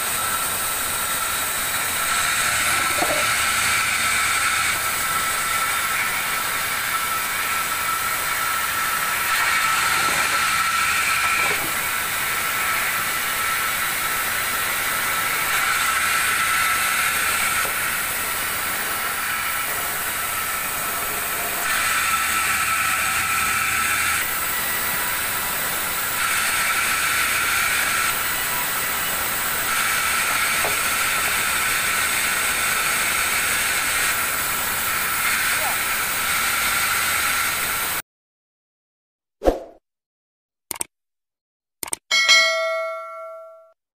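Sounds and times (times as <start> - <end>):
band saw cutting wood: 0.0 - 38.0.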